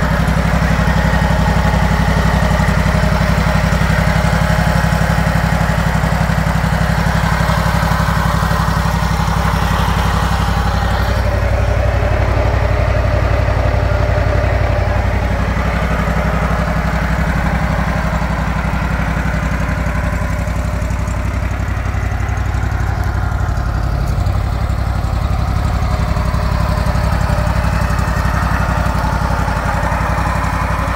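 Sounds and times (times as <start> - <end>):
trencher engine idling: 0.0 - 30.9.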